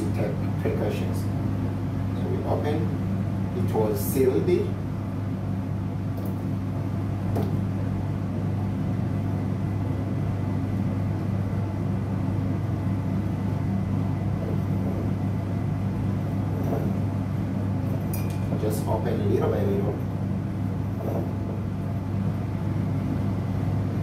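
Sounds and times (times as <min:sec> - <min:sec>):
extraction fan humming: 0:00.0 - 0:24.0.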